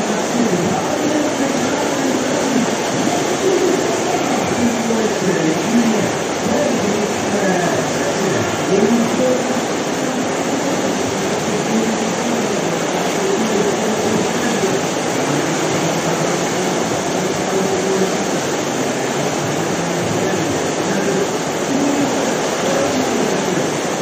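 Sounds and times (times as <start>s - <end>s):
whitewater rapids rushing: 0.0s - 24.0s.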